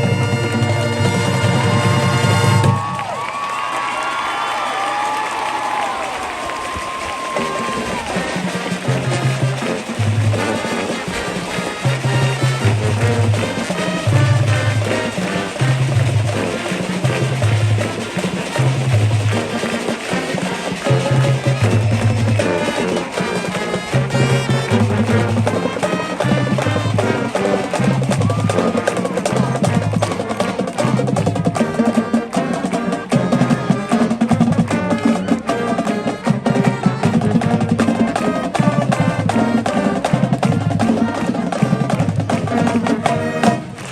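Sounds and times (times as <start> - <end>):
marching band playing: 0.0 - 43.9.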